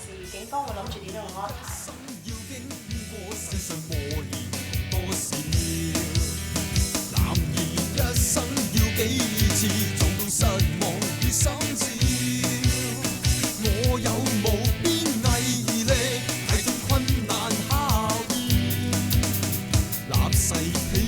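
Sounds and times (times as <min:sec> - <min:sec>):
drum kit beat: 0:00.0 - 0:21.0
guitar: 0:00.0 - 0:21.0
person singing: 0:00.0 - 0:21.0
rock-pop song: 0:00.0 - 0:21.0.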